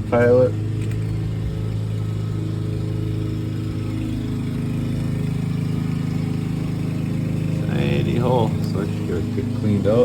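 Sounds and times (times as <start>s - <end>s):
small engine droning: 0.0s - 10.0s.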